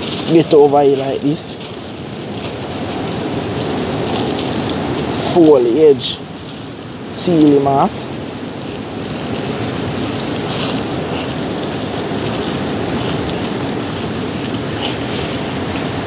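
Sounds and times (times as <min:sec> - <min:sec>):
aluminium foil crinkling: 0:00.0 - 0:16.0
steady background noise: 0:00.0 - 0:16.0.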